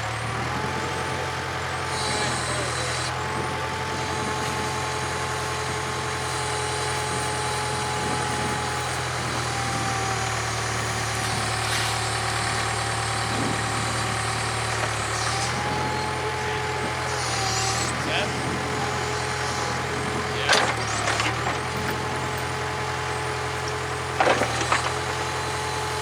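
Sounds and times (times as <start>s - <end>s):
backhoe diesel engine running: 0.0s - 26.0s.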